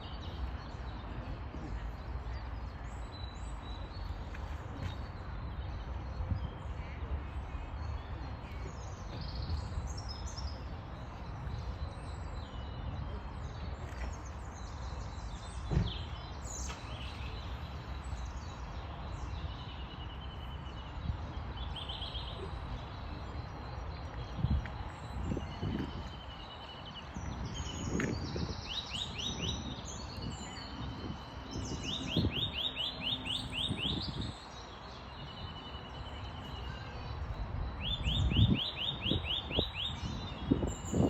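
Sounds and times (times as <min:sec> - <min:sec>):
small birds chirping and trilling: 0:00.0 - 0:41.0.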